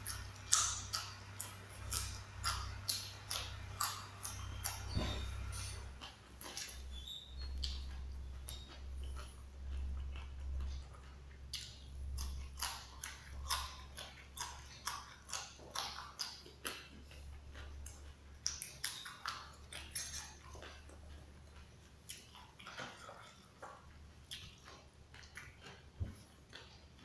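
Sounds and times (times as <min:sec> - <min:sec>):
crisp crunching of chewing: 0:00.0 - 0:27.0.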